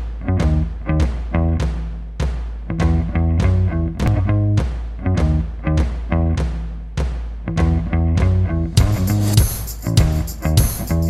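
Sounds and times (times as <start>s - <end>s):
instrumental music with struck chords: 0.0s - 11.0s.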